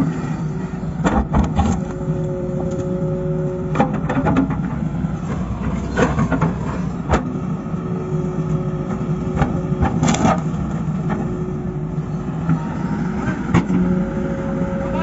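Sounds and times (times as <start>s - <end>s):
diesel engine running with whine: 0.0s - 15.0s.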